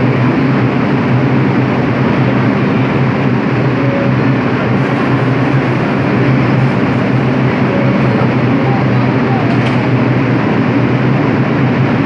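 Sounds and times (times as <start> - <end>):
subway train humming: 0.0 - 12.0.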